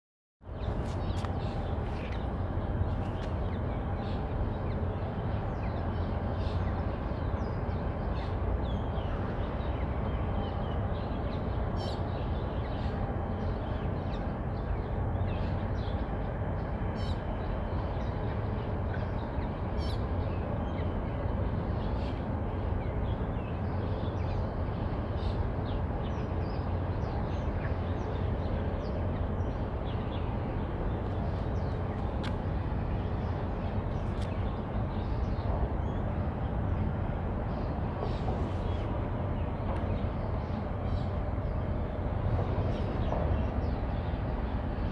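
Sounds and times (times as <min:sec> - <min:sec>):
low waterfront rumble: 0:00.4 - 0:44.9.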